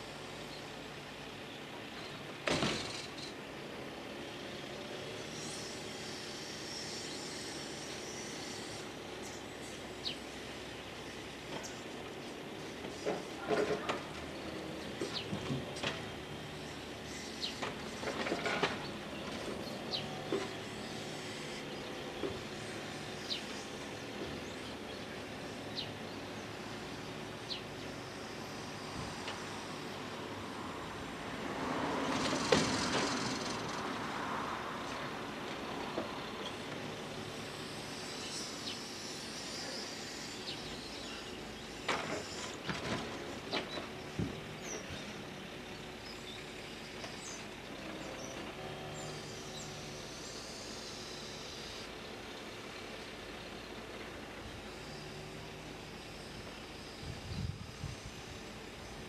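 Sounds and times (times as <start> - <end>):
birds chirping: 0.4 - 30.3, 35.9 - 59.0.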